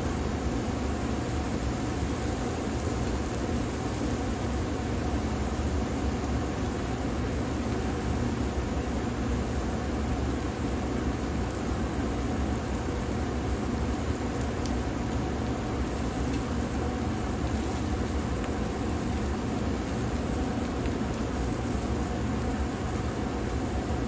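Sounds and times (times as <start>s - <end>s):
food sizzling on grill: 0.0s - 24.0s.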